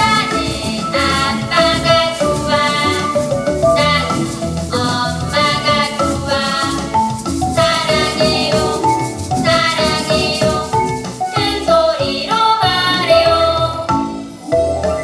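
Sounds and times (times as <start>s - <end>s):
shaker rhythm: 0.0s - 14.1s
upbeat children's song: 0.0s - 15.0s.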